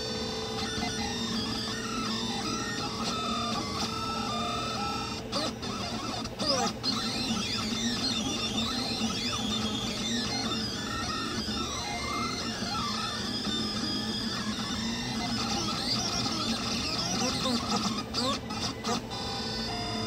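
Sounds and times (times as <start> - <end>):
small cooling fan hum: 0.0 - 20.0
stepper motors whining: 0.0 - 20.0.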